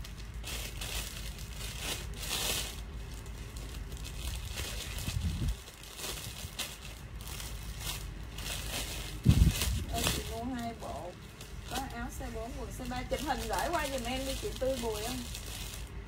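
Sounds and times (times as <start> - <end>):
fabric rustling: 0.0 - 16.0.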